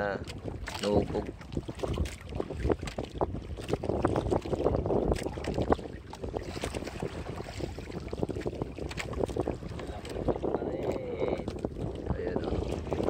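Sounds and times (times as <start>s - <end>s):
choppy sea water: 0.0s - 13.0s
wind buffeting microphone: 0.0s - 13.0s.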